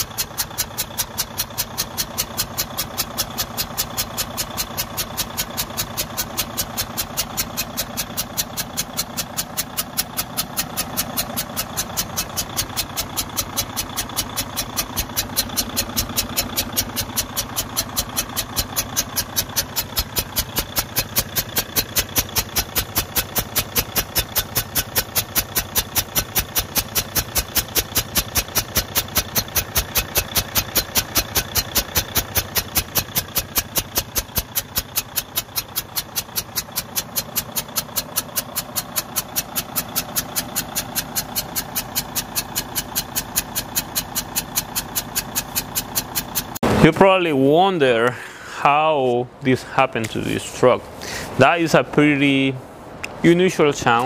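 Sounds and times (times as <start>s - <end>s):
loud sharp engine ticking: 0.0s - 46.8s
diesel engine idling: 0.0s - 54.0s.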